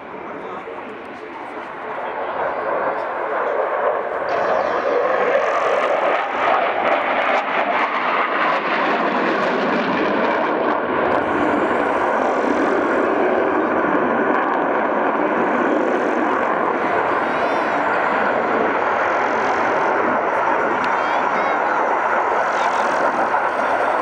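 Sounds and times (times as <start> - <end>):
jet fighter flying overhead: 0.0 - 24.0.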